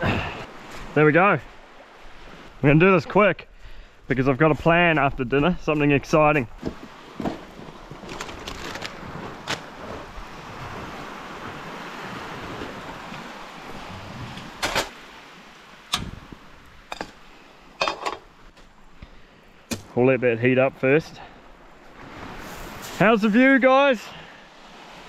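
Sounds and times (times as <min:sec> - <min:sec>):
surf and wind: 0:00.0 - 0:25.0.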